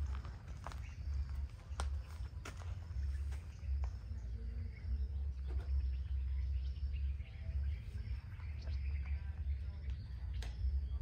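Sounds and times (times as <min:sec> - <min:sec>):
faint bird chirps: 0:00.0 - 0:11.0
steady low rumble: 0:00.0 - 0:11.0.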